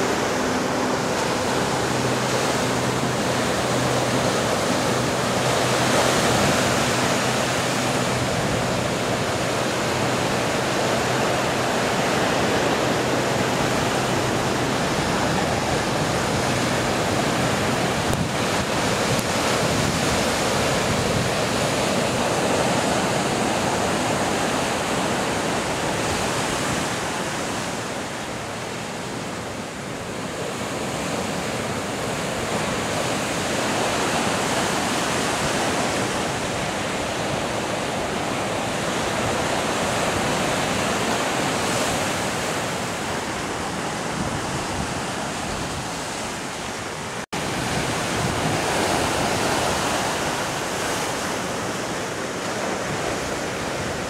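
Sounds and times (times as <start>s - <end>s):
surf breaking on rocky shore: 0.0s - 54.0s.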